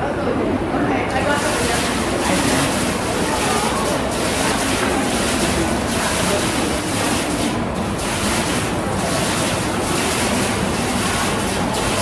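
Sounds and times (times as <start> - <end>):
fountain water splashing: 1.1 - 12.0.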